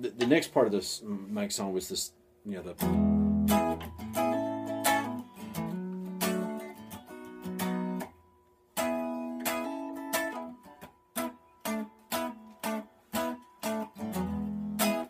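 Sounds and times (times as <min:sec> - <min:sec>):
electric guitar chords: 0:02.8 - 0:15.0.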